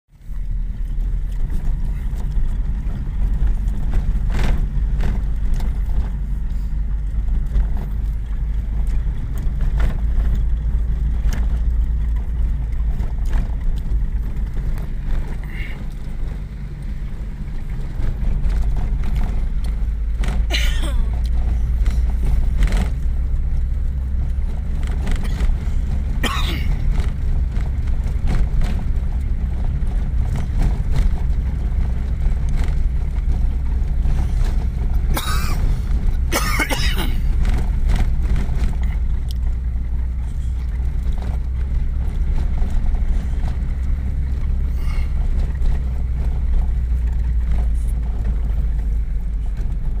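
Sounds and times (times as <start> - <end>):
engine and road rumble: 0.1 - 50.0
rattles from bumps: 0.2 - 50.0.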